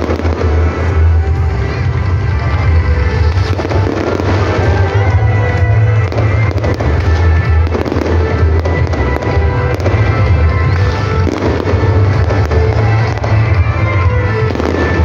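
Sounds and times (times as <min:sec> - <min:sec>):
fireworks popping and crackling: 0:00.0 - 0:15.0
loud music with heavy bass: 0:00.0 - 0:15.0.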